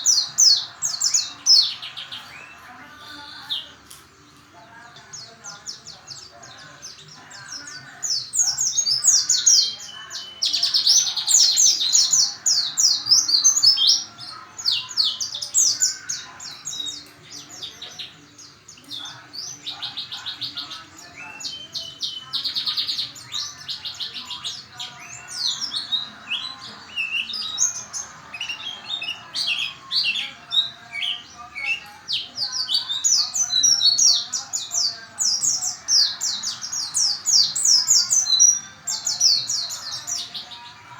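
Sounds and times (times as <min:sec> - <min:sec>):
birds twittering and trilling: 0:00.0 - 0:40.9.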